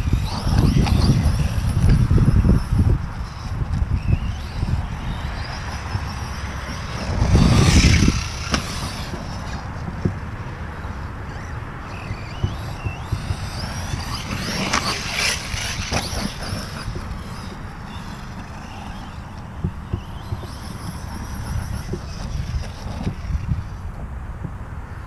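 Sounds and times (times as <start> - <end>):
electric motor whine: 0.0 - 9.8, 10.8 - 23.8
noisy rumble: 0.0 - 24.9.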